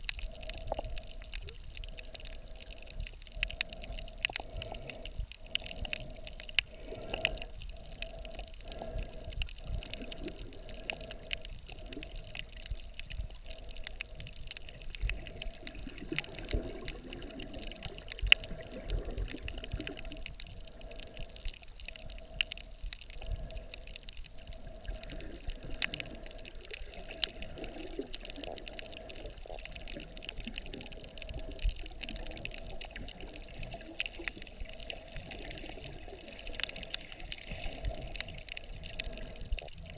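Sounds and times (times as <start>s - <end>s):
muffled underwater water movement: 0.0s - 39.9s
sharp clicks and crackles: 0.0s - 39.9s.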